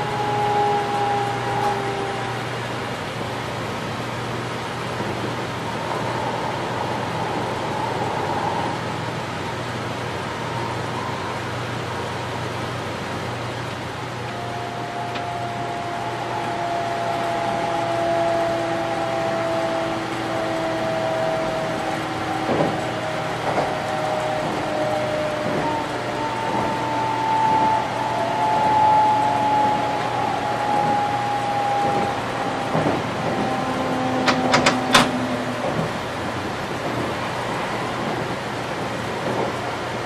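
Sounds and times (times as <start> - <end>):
train running noise: 0.0 - 40.0
whining tones: 0.0 - 40.0.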